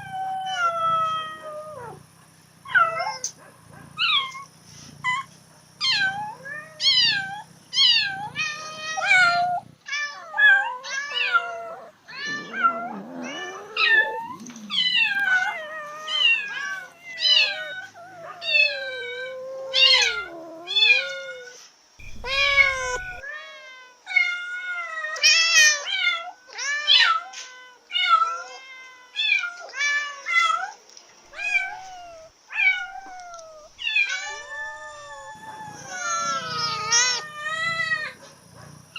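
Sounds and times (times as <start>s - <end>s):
cats meowing: 0.0s - 38.9s.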